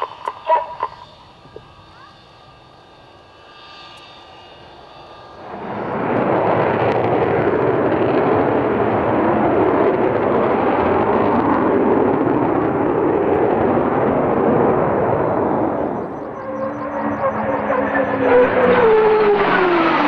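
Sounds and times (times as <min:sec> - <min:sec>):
jet aircraft roaring overhead: 0:00.0 - 0:20.0.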